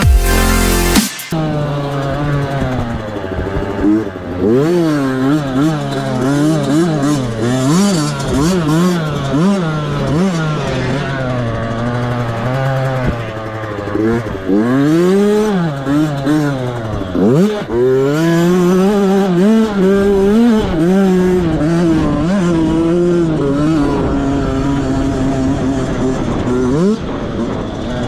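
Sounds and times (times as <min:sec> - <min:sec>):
motocross bike revving: 0:00.0 - 0:28.0.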